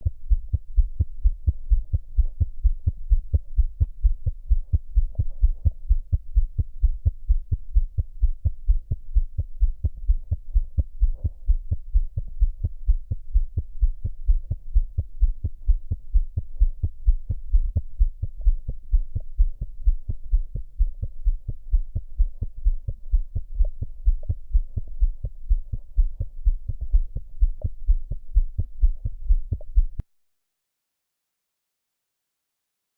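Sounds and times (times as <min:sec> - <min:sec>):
fast heartbeat: 0:00.0 - 0:30.0.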